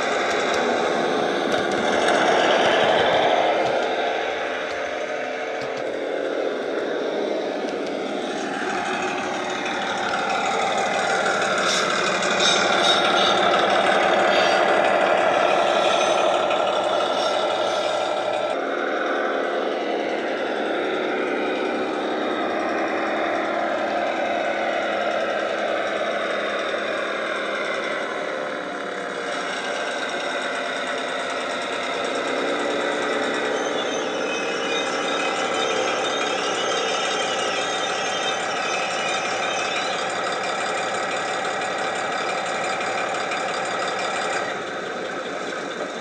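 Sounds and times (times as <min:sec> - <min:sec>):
diesel engine through small speaker: 0:00.0 - 0:46.0.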